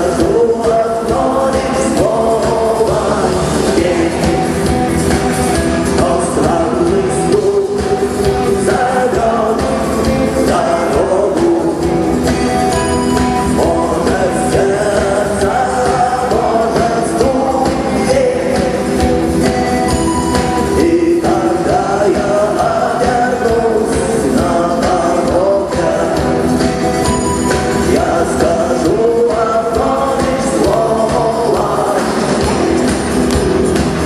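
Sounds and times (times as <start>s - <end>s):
person singing: 0.0s - 34.0s
rock band playing: 0.0s - 34.0s.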